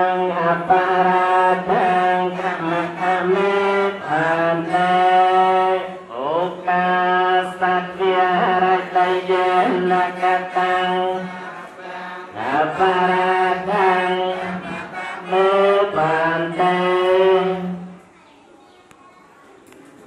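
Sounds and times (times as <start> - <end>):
monks chanting in unison: 0.0 - 17.9.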